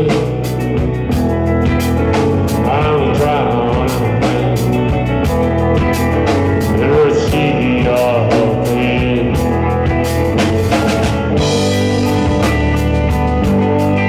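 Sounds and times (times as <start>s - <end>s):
bass guitar: 0.0s - 14.0s
drum kit beat: 0.0s - 14.0s
electric guitar: 0.0s - 14.0s.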